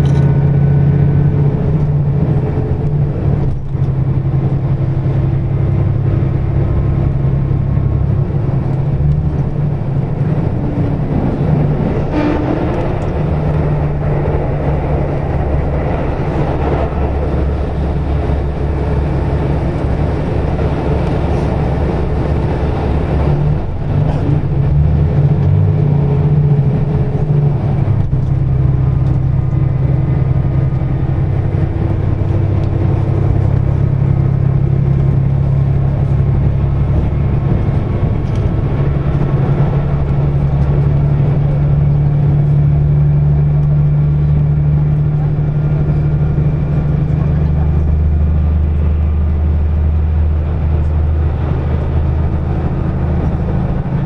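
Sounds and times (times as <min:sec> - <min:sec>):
diesel engine drone: 0:00.0 - 0:54.0
wheels rumbling on rail: 0:00.0 - 0:54.0.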